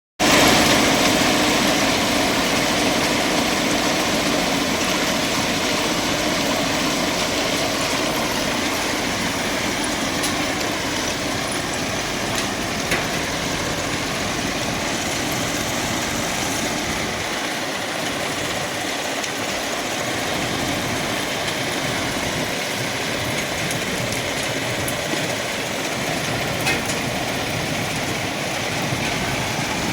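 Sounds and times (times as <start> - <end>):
track machine engine din: 0.2 - 29.9.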